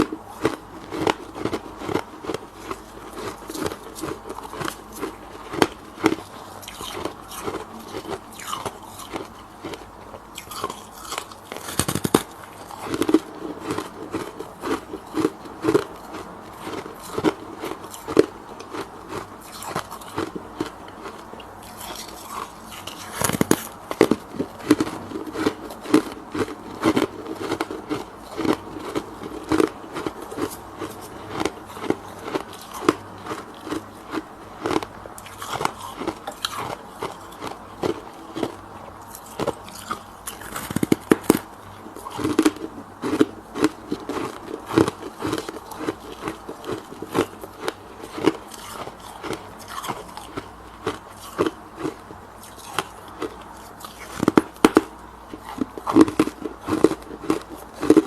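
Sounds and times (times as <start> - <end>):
frost crunching when chewed: 0.0 - 58.0.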